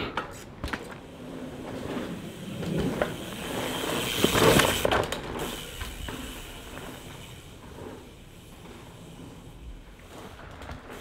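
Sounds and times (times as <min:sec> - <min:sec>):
bike clicks and knocks: 0:00.0 - 0:11.0
bike tyres rolling over dirt: 0:00.0 - 0:11.0.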